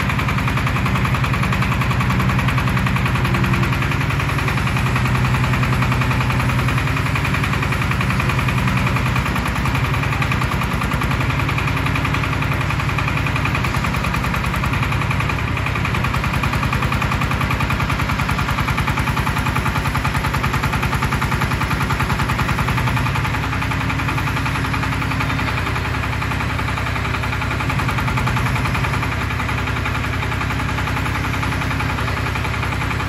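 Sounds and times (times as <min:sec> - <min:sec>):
drilling rig engine running: 0:00.0 - 0:33.0.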